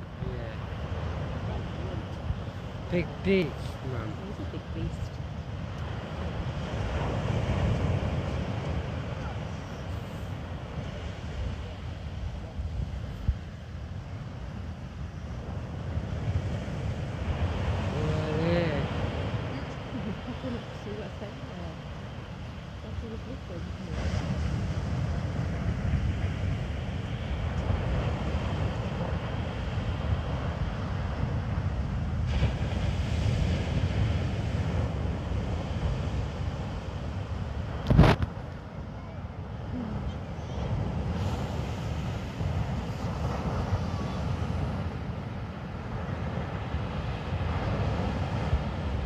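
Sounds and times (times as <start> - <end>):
surf breaking on shore: 0.0 - 49.0
wind buffeting microphone: 0.0 - 49.0.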